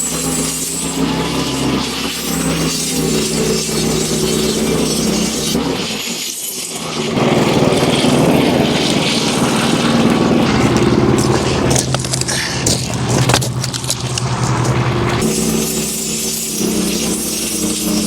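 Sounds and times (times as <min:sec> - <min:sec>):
band sawmill sawing wood: 0:00.0 - 0:18.0
scraping clicks: 0:00.1 - 0:18.0.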